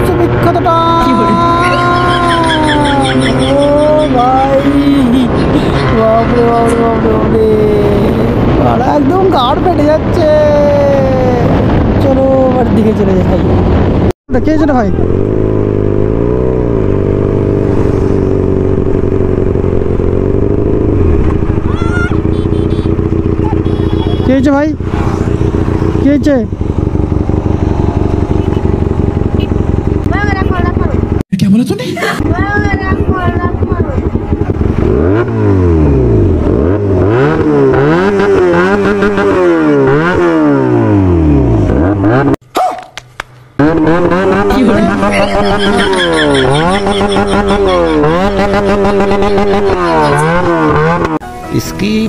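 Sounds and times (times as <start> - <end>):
motorcycle engine running: 0.0 - 31.2, 32.2 - 42.4, 43.3 - 52.0.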